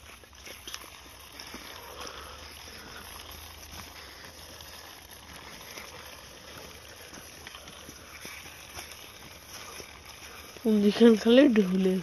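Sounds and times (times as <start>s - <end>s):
plastic wheels rolling on concrete: 0.0s - 12.0s.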